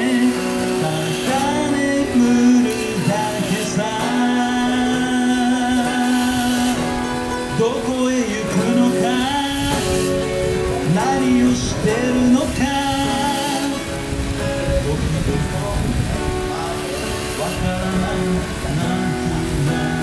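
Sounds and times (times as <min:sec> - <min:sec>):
acoustic guitar: 0:00.0 - 0:20.0
man singing into microphone: 0:00.0 - 0:20.0.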